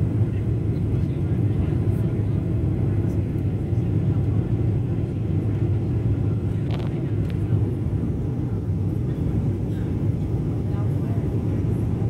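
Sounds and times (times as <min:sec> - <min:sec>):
jet engine cabin roar: 0:00.0 - 0:12.0.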